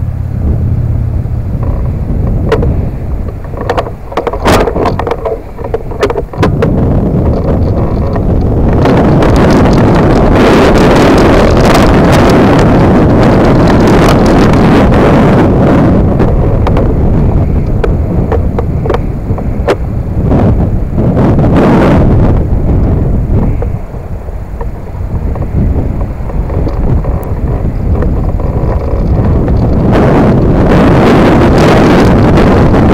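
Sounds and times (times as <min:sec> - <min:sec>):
road rumble: 0:00.0 - 0:32.9
wind buffeting microphone: 0:00.0 - 0:32.9.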